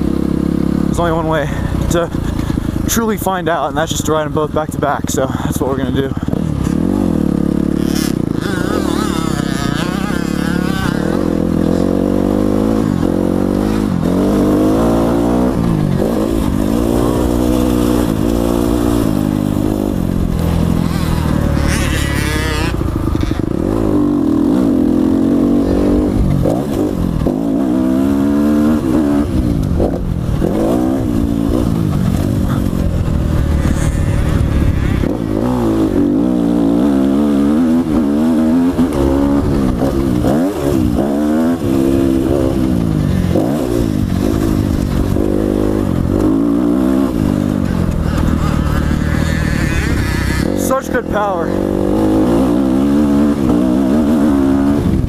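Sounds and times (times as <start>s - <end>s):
motorcycle engine revving: 0.0s - 55.0s
rush of noise: 5.9s - 55.0s.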